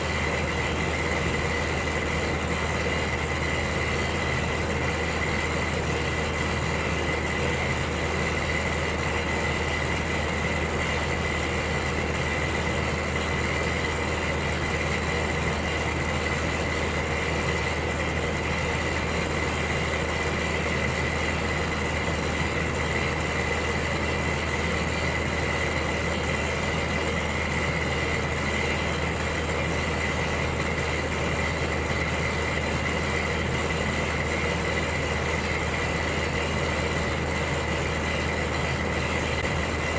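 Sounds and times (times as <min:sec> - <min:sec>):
electric heater humming: 0:00.0 - 0:39.9.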